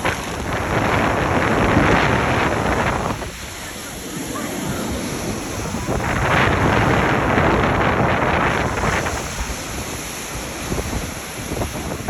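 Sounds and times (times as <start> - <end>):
lake waves breaking on shore: 0.0 - 12.0
wind buffeting microphone: 0.0 - 12.0.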